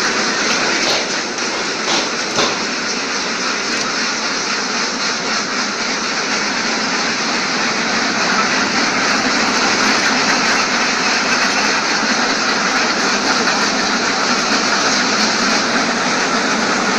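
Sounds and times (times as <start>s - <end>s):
conveyor machinery clatter and hum: 0.0s - 16.9s.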